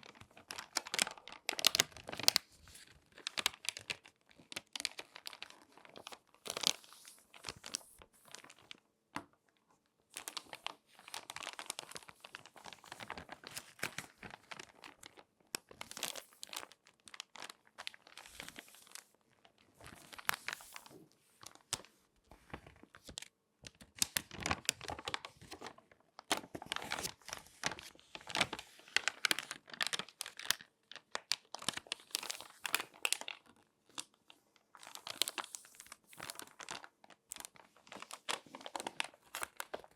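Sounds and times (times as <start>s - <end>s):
magazine pages crackling and rustling: 0.0s - 9.4s, 10.1s - 39.9s.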